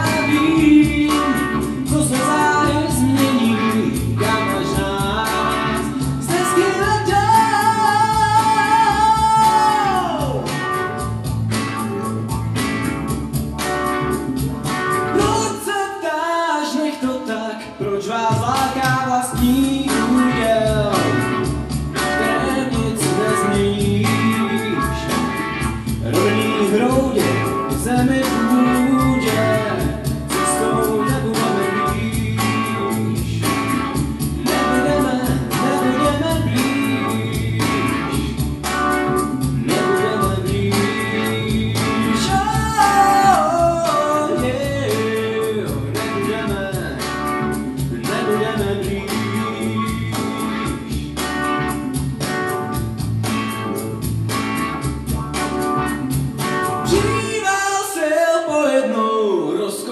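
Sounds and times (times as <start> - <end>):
man singing pop song: 0.0 - 11.0, 15.0 - 52.7, 56.7 - 59.9
instrumental music with beat: 0.0 - 15.7, 18.3 - 57.8.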